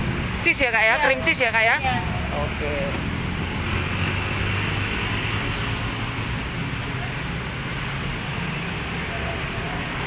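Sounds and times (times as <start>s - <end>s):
roadside traffic rumble: 0.0s - 10.0s.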